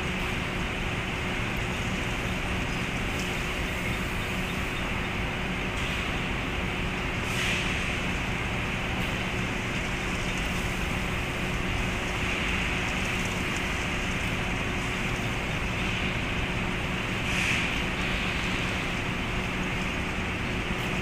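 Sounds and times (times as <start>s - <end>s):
belt conveyor humming: 0.0s - 21.0s.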